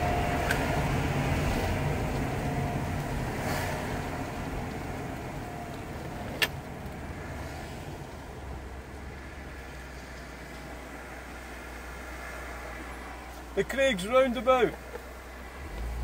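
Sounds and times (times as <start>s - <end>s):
car engine from inside cabin: 0.0s - 16.0s.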